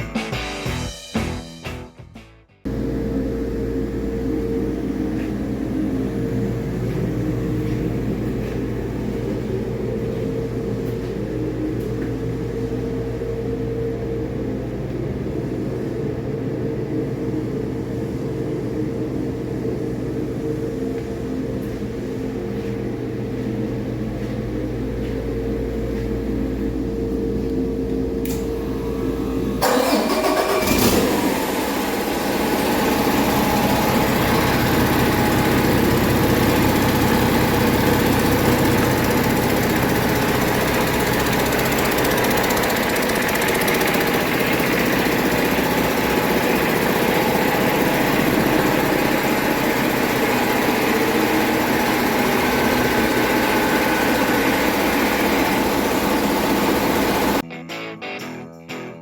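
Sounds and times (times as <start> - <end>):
diesel engine running: 2.6 - 57.4.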